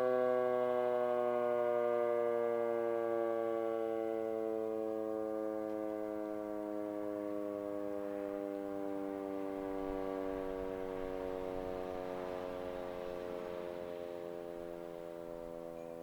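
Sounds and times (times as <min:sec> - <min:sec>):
warning siren winding down: 0:00.0 - 0:16.0.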